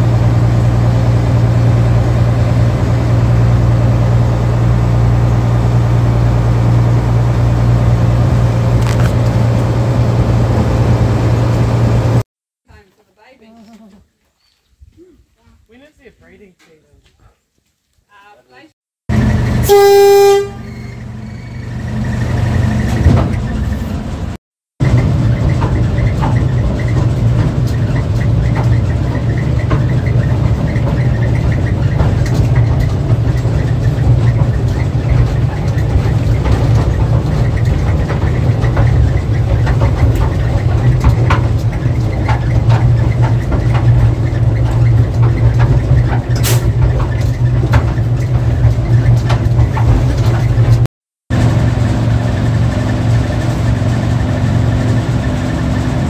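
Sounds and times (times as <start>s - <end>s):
train engine drone: 0.0s - 12.2s, 19.1s - 50.7s, 51.3s - 56.0s
wheels clicking and rattling on track: 0.0s - 12.2s, 19.1s - 56.0s.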